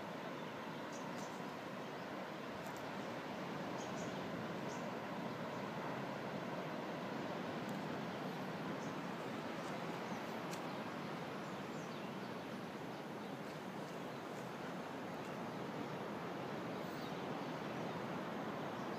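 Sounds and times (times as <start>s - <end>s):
steady rushing hiss: 0.0s - 18.9s.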